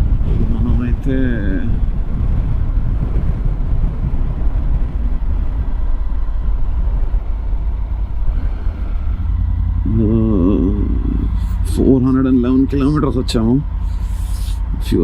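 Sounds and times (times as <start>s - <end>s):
motorcycle engine rumbling: 0.0s - 15.0s
wind and road noise: 0.0s - 15.0s.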